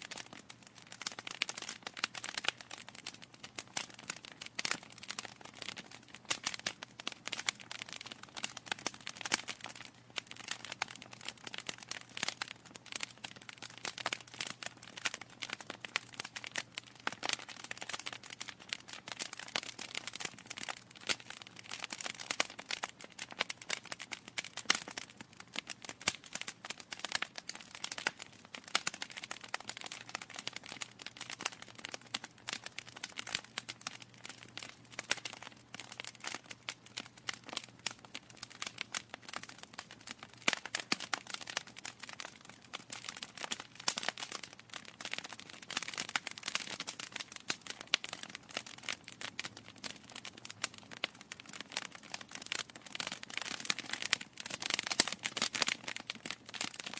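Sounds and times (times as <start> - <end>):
logs crackling in fireplace: 0.0 - 56.9.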